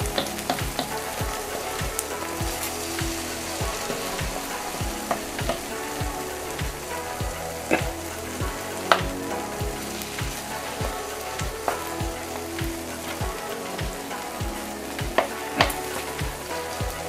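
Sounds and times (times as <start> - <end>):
egg sizzling in frying pan: 0.0 - 17.0
low thumping beat: 0.0 - 17.0.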